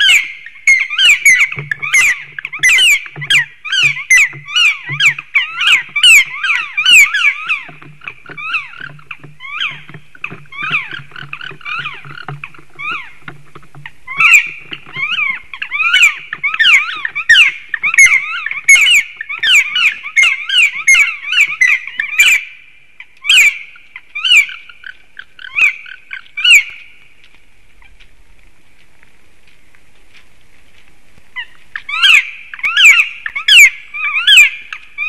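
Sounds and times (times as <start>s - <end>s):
woodpeckers calling: 0.0s - 28.1s, 31.2s - 35.0s.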